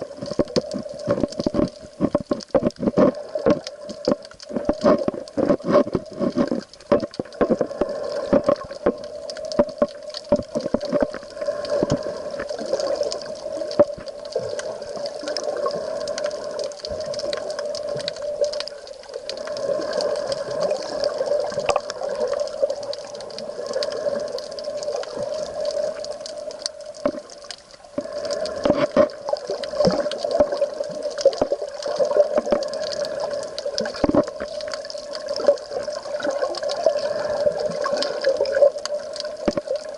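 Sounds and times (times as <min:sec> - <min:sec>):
seawater sloshing and gurgling: 0:00.0 - 0:39.9
small clicks and knocks: 0:00.2 - 0:39.9.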